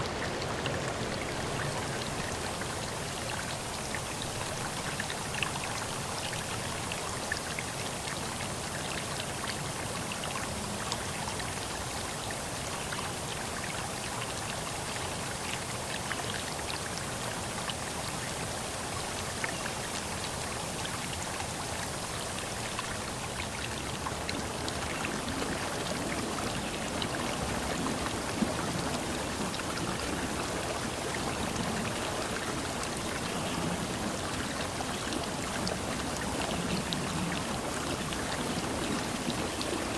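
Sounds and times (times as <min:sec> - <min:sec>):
water drips and splashes: 0:00.0 - 0:39.9.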